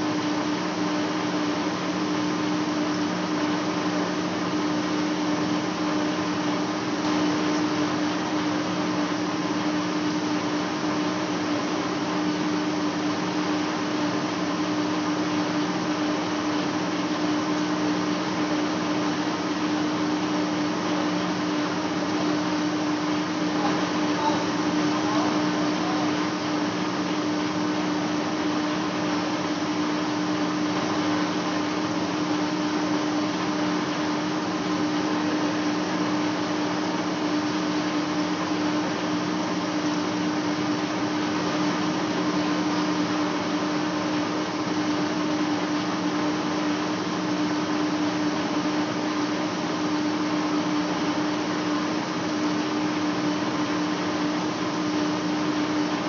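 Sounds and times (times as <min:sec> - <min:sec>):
lathe machine humming: 0:00.0 - 0:56.0.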